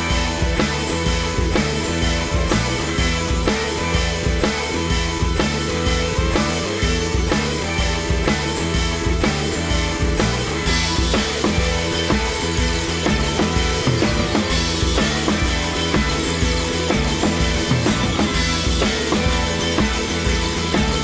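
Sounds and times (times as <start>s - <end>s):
rock music with drums and guitar: 0.0s - 21.0s.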